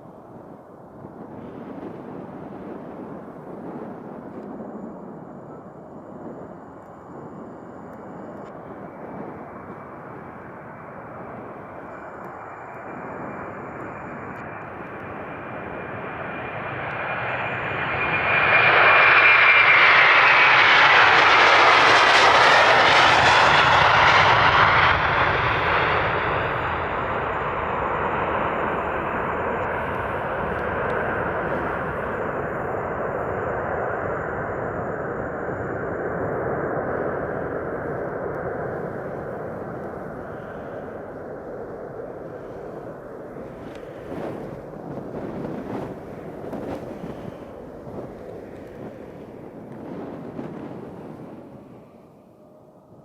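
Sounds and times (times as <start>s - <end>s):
jet taking off and passing: 0.3s - 53.0s.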